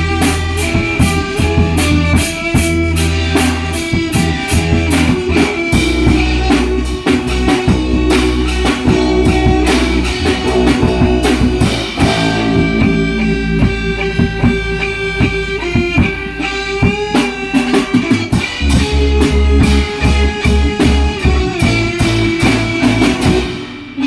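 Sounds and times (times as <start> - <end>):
bass: 0.0 - 24.0
drum kit: 0.0 - 24.0
guitar holding long notes: 0.0 - 24.0.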